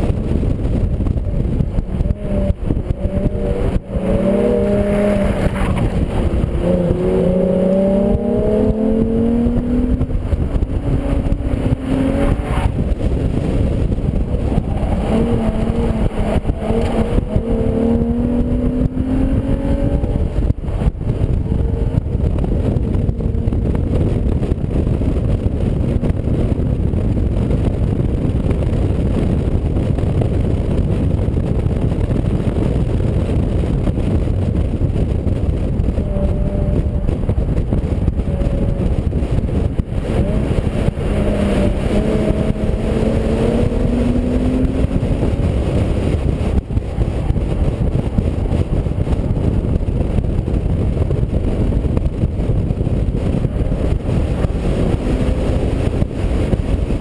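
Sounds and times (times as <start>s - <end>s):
car engine revving: 0.0s - 57.0s
wind and road noise: 0.0s - 57.0s.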